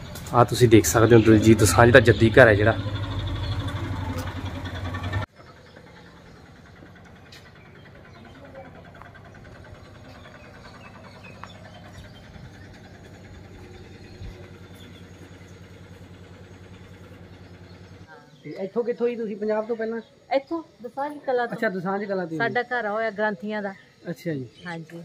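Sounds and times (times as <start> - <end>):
engine humming: 0.0 - 21.5.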